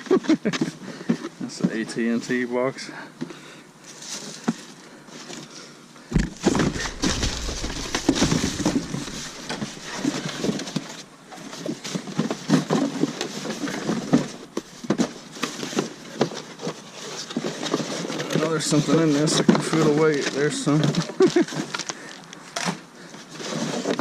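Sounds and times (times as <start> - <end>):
rummaging through cardboard and junk: 3.8 - 24.0.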